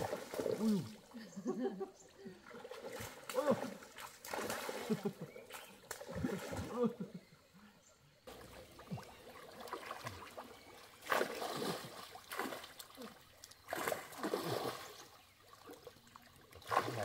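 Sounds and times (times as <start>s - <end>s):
water splashing and sloshing: 0.0s - 1.2s, 2.0s - 7.0s, 8.3s - 17.0s.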